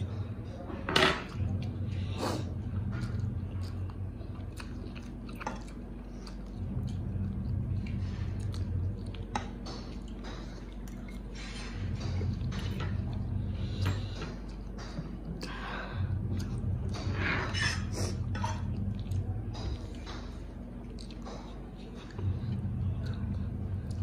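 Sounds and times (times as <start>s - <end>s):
people chewing and slurping noodles: 0.0s - 24.0s.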